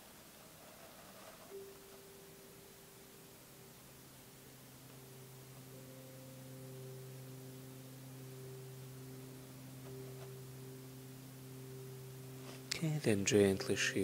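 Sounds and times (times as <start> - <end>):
ambient drone music: 1.4 - 14.0.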